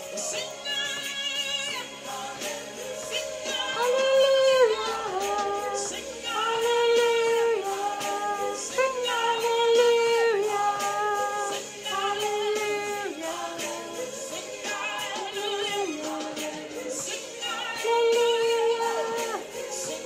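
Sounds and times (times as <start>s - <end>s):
backing track music: 0.0s - 20.0s
woman singing worship song: 0.0s - 20.0s.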